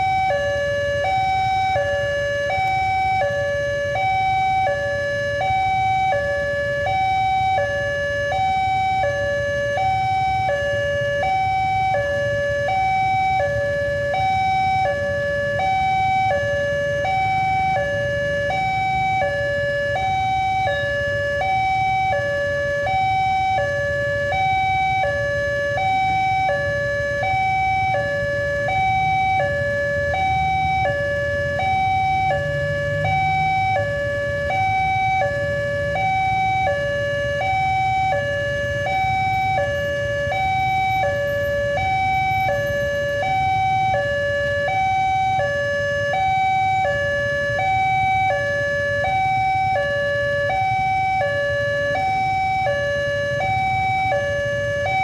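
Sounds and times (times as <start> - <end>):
idling vehicles rumble: 0.0 - 55.0
two-tone crossing alarm: 0.0 - 55.0.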